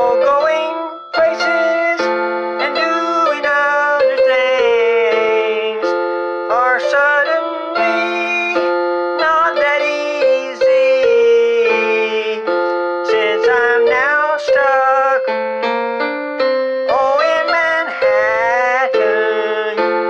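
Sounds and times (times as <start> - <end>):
man singing: 0.0 - 15.4, 16.9 - 20.0
keyboard playing held chords: 0.0 - 20.0.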